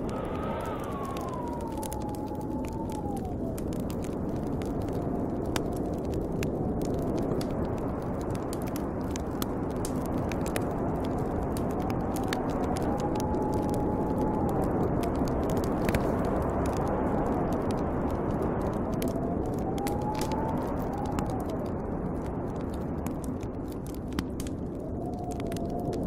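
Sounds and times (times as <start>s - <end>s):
snowstorm wind whistling: 0.0s - 26.0s.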